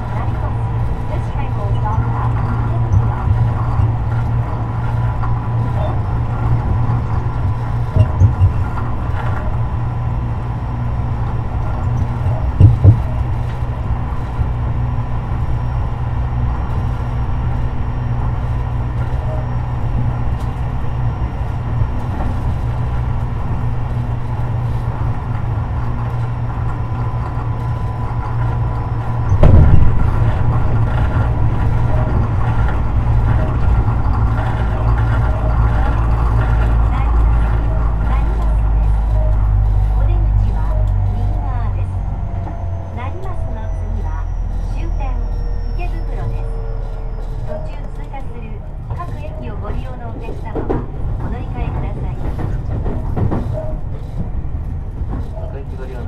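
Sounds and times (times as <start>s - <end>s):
electric train running rumble: 0.0s - 56.0s
train thumps: 0.0s - 56.0s.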